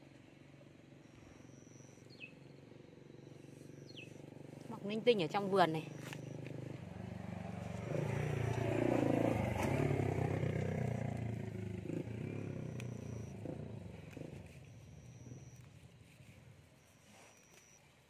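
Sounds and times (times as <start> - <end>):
motor vehicle passing: 3.0 - 17.7.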